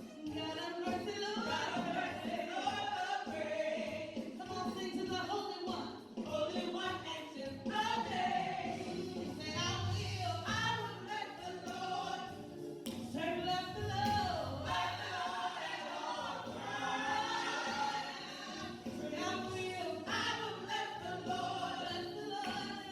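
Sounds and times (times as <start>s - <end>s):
choir singing gospel: 0.0s - 22.9s.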